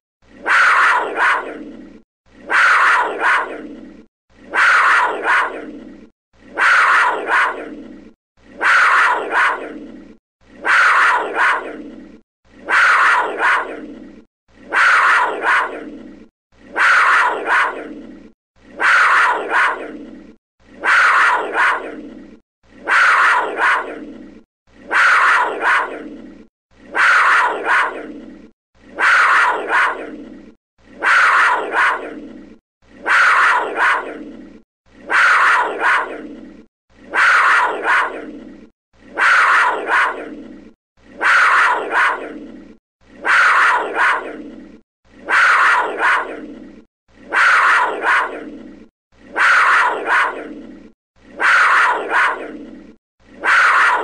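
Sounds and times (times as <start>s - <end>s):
panther growling: 0.3s - 54.0s.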